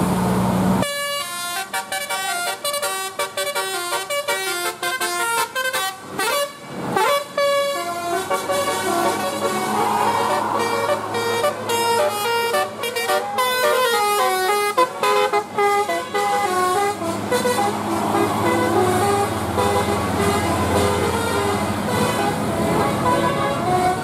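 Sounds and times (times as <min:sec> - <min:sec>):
bus engine running: 0:00.0 - 0:24.0
multi-tone bus horn tune: 0:00.8 - 0:24.0.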